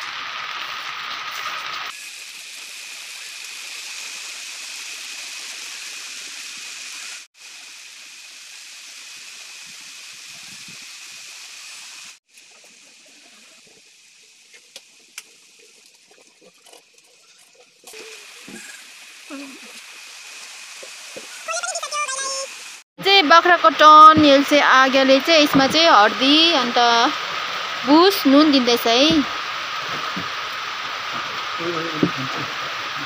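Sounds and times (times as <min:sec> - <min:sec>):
rain falling: 0:00.0 - 0:16.8, 0:17.8 - 0:33.0.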